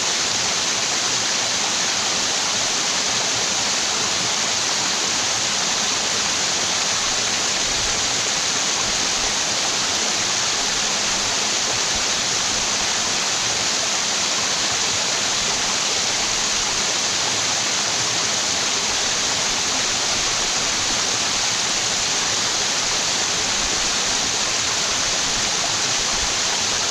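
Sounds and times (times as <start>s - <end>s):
waterfall pouring and splashing: 0.0s - 26.9s.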